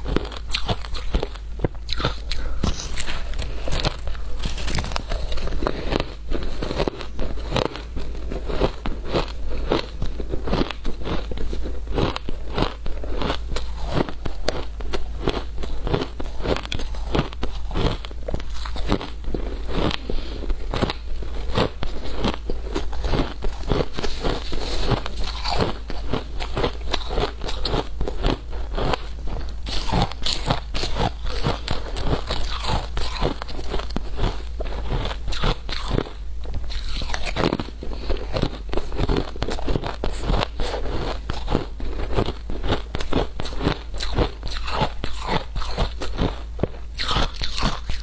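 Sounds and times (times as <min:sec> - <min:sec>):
ice crunching in mouth: 0:00.0 - 0:48.0.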